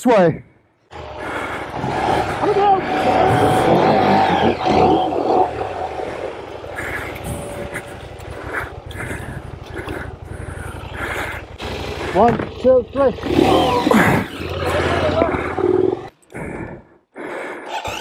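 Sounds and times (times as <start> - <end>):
dirt bike engine revving and idling: 0.9 - 16.1.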